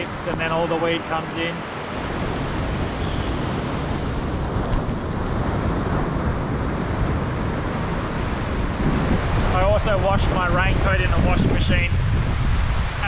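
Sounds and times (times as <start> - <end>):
breaking surf: 0.0 - 13.0
wind buffeting microphone: 0.0 - 13.0.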